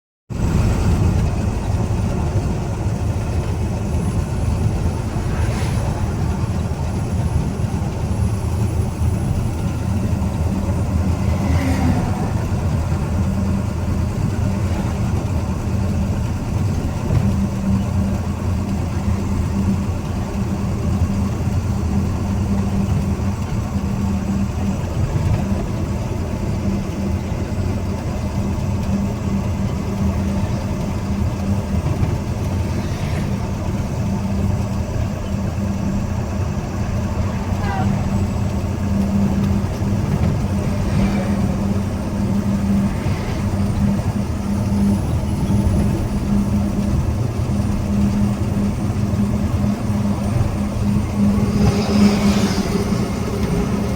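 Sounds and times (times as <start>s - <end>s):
road noise: 0.3s - 53.9s
truck engine droning: 0.3s - 53.9s.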